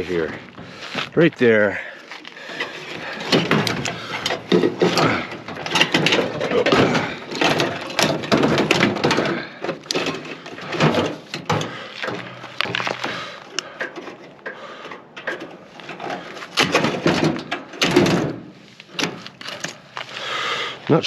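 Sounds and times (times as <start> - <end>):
metal clattering and scraping: 0.0 - 21.0
irregular metal knocks: 2.4 - 19.8.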